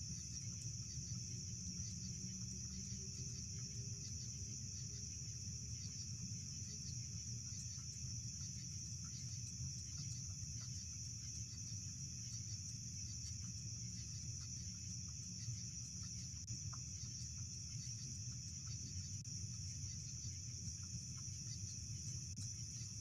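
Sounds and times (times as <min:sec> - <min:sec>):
faint ticks: 0:00.0 - 0:23.0
night insects chorus: 0:00.0 - 0:23.0.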